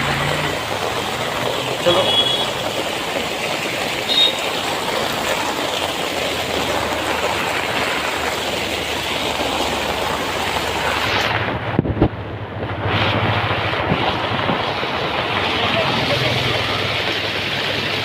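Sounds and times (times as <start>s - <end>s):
floodwater rushing and splashing: 0.0s - 18.0s.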